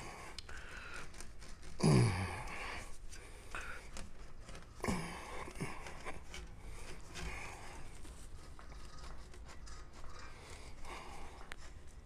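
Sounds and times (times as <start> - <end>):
faint rubbing and handling: 0.0 - 12.0.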